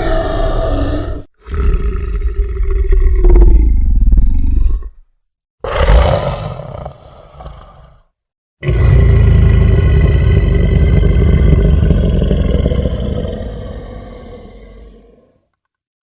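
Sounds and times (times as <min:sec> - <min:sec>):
monster roaring growls: 0:00.0 - 0:05.0, 0:05.6 - 0:08.0, 0:08.6 - 0:15.5.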